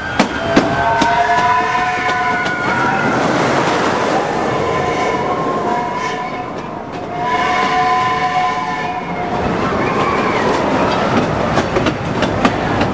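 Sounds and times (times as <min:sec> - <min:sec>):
small train rumbling on track: 0:00.0 - 0:12.9.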